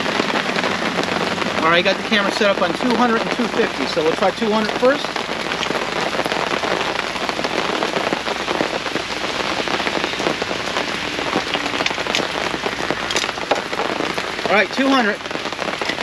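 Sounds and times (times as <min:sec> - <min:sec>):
heavy rain on fabric canopy: 0:00.0 - 0:16.0.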